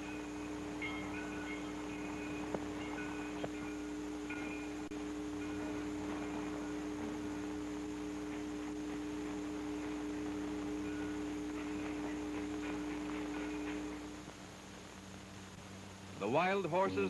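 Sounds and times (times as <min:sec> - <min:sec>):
film soundtrack hiss: 0:00.0 - 0:17.0
steady held tone: 0:00.0 - 0:17.0.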